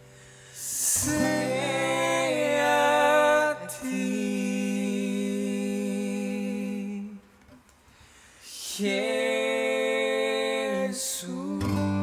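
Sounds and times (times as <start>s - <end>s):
two men singing in harmony: 0.6s - 7.2s, 8.5s - 12.0s.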